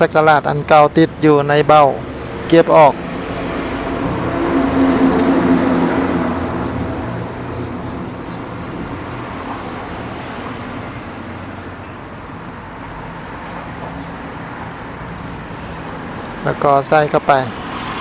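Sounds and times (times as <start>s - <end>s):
background traffic noise: 0.0s - 18.0s
vehicle engine passing: 0.0s - 18.0s.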